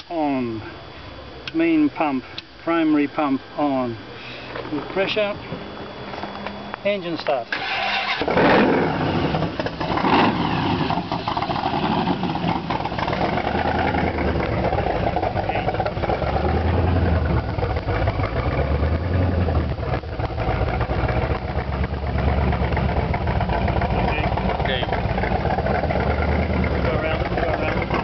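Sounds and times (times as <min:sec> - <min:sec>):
engine idling with low rumble: 0:00.0 - 0:28.0.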